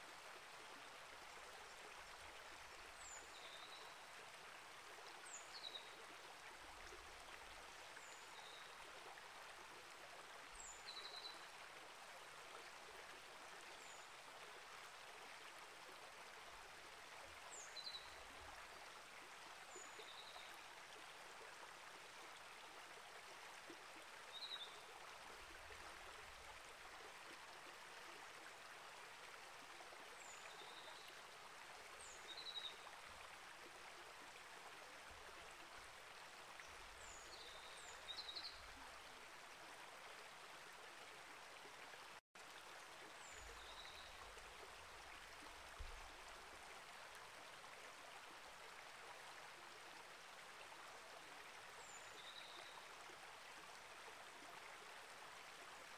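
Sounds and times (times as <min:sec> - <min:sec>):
small creek flowing: 0:00.0 - 0:55.9.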